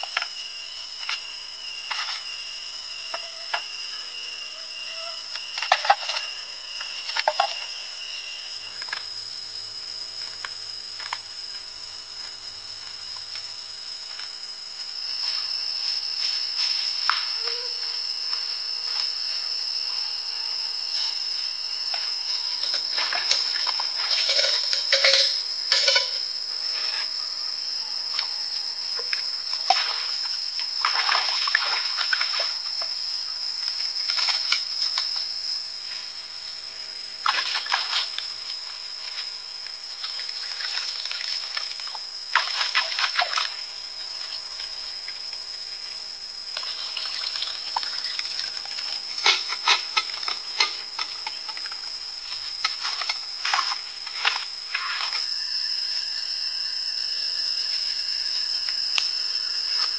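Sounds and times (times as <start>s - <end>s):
insect chorus: 0.0s - 59.9s.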